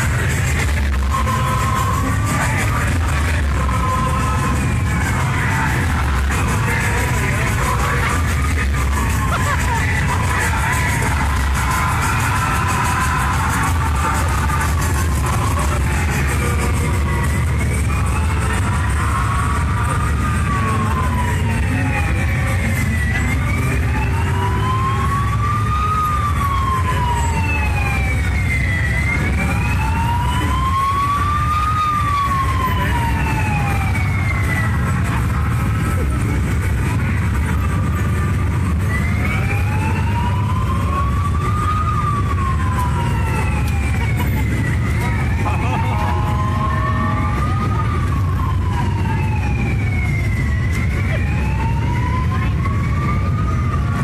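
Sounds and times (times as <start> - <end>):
vehicle siren wailing: 0.0 - 54.0.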